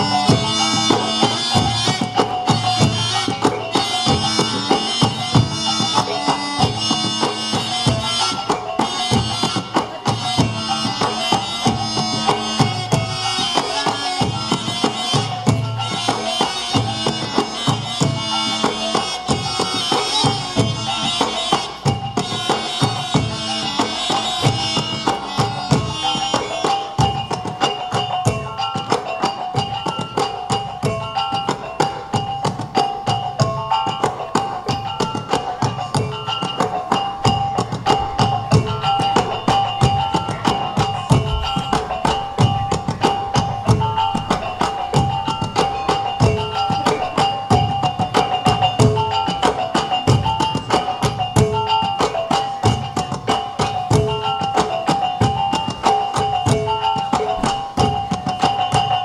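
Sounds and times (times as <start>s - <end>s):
wind instrument held notes: 0.0s - 29.4s, 32.8s - 54.4s
fast drum and percussion: 0.0s - 59.0s.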